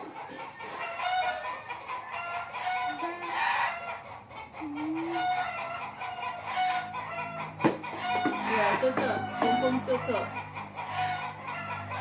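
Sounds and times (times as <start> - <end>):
chickens clucking: 0.0 - 12.0
rooster crowing: 0.2 - 4.1, 5.0 - 12.0.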